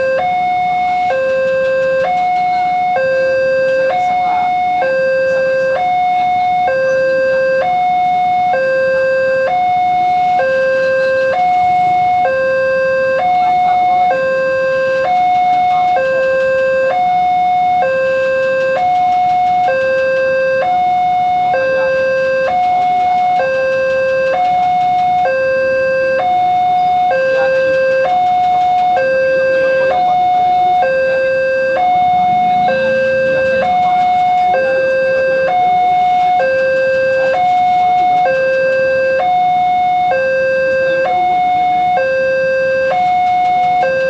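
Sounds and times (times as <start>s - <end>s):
level crossing two-tone alarm: 0.0s - 44.0s.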